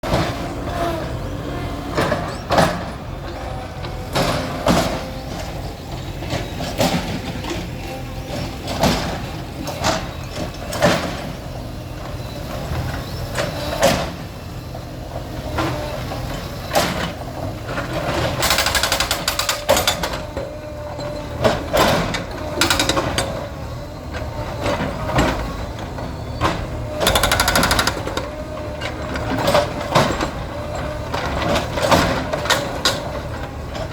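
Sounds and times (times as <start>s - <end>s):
bulldozer engine rumbling: 0.0s - 33.9s.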